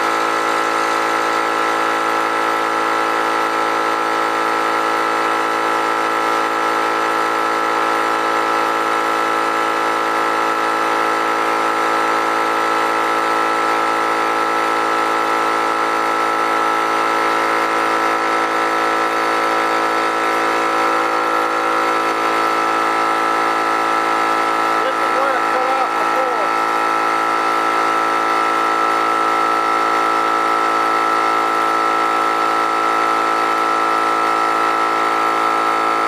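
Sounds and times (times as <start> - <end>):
air compressor running: 0.0 - 36.0.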